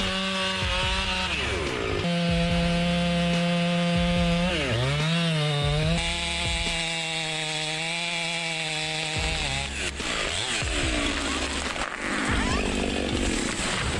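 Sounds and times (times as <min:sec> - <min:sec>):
chainsaw cutting wood: 0:00.0 - 0:13.9.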